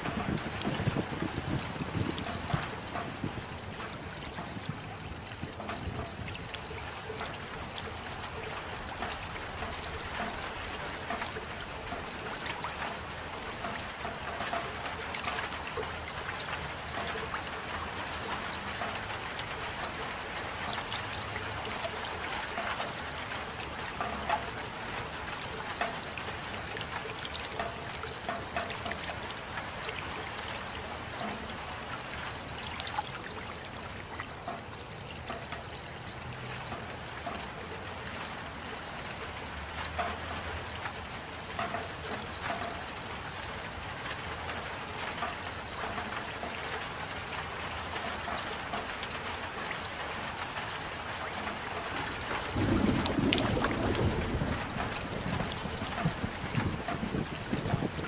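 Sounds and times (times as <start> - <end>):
rain drops ticking: 0.0 - 58.0.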